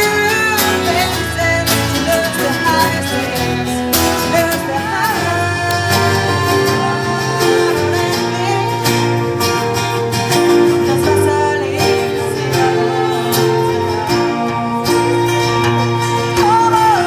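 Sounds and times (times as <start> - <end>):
woman singing: 0.0 - 9.8, 10.5 - 17.0
live pop band playing: 0.0 - 17.0.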